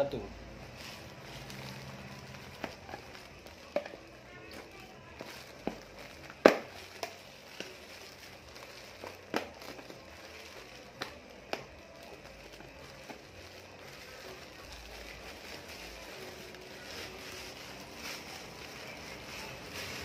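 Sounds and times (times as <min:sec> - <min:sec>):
plastic bag crinkling: 0:00.6 - 0:20.0.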